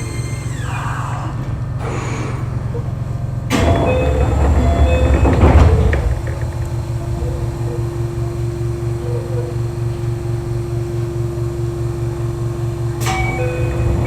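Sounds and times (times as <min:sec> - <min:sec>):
train doors hissing open: 0:00.0 - 0:12.0, 0:12.6 - 0:14.0
train drive whine: 0:00.0 - 0:14.0
train rumble: 0:00.0 - 0:14.0.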